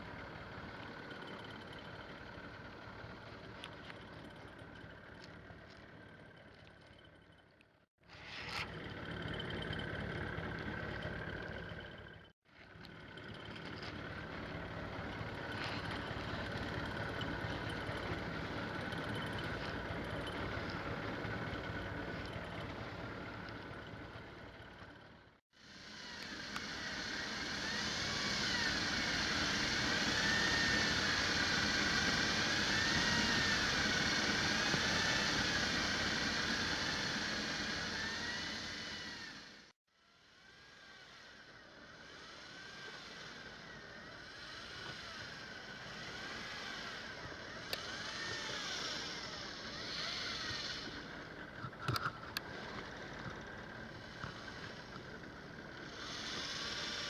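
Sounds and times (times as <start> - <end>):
motor whining: 8.0 - 39.7, 40.3 - 57.0.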